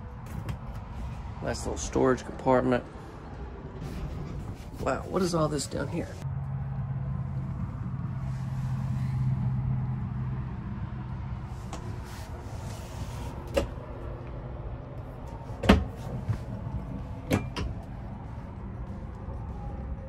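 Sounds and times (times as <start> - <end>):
steady low hum: 2.6 - 20.0.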